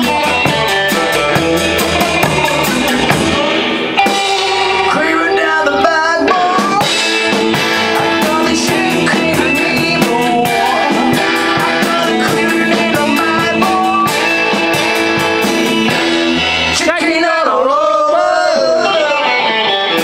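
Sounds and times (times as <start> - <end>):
drum kit beat: 0.0 - 17.3
electric guitars and bass: 0.0 - 20.0.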